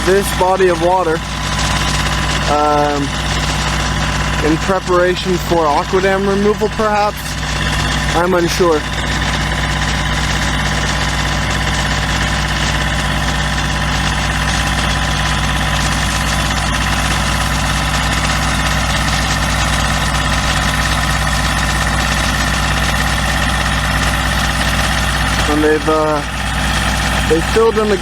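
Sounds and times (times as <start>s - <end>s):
pump engine running: 0.0s - 28.0s.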